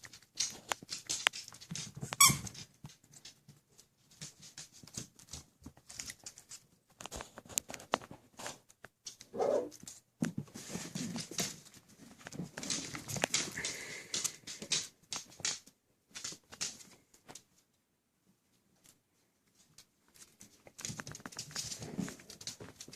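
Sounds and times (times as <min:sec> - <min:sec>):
puppies rustling: 0:00.0 - 0:17.6, 0:18.6 - 0:22.9.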